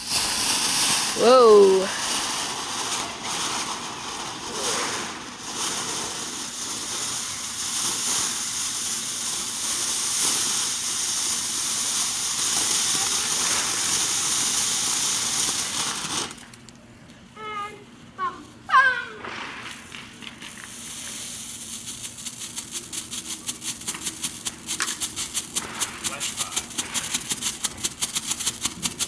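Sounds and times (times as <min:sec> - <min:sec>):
firework fountain hissing: 0:00.0 - 0:16.6, 0:18.8 - 0:29.0.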